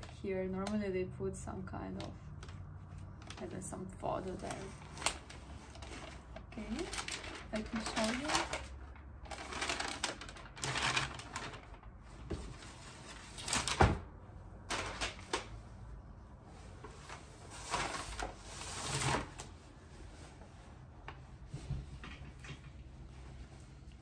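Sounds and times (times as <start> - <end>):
fabric and tissue paper rustling: 1.6 - 24.0.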